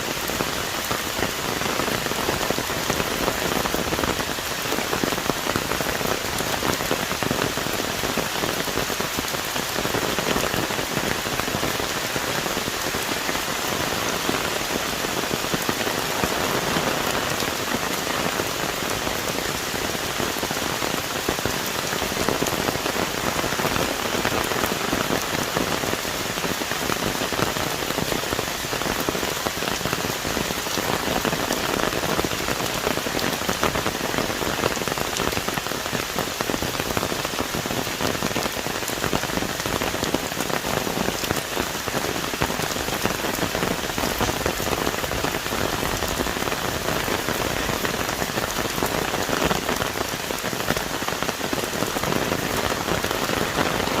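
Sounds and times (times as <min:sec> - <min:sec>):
heavy rain on leaves: 0:00.0 - 0:54.0.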